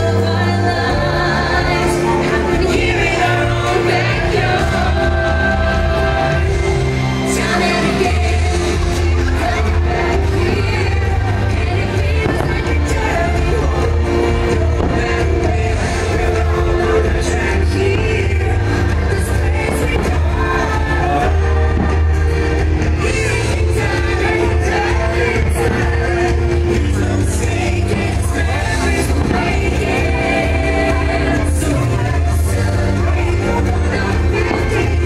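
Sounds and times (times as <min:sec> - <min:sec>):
pop song with vocals and bass: 0:00.0 - 0:35.0.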